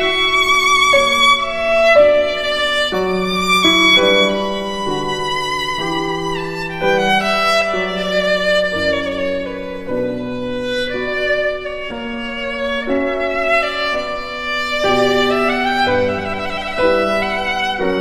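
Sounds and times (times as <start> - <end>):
slow violin melody: 0.0 - 18.0.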